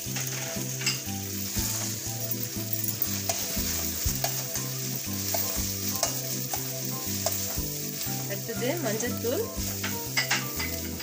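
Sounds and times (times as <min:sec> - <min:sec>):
spatula scraping a pan: 0:00.0 - 0:08.8, 0:09.4 - 0:11.0
vegetables sizzling in hot oil: 0:00.0 - 0:11.0.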